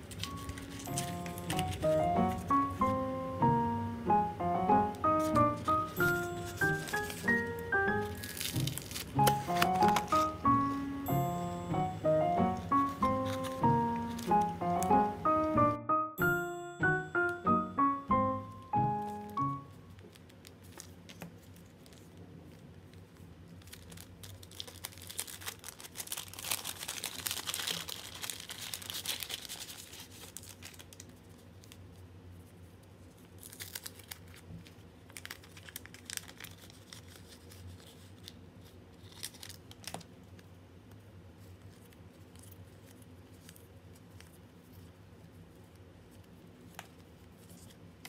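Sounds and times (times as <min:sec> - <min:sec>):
stickers crinkling and rustling: 0:00.0 - 0:03.7, 0:04.8 - 0:15.7, 0:16.3 - 0:48.0.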